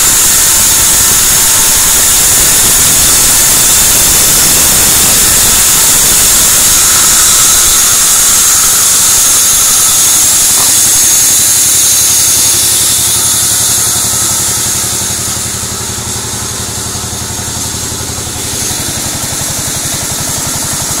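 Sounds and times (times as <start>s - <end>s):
band saw blade cutting wood: 0.0s - 21.0s
machine hum: 0.0s - 21.0s.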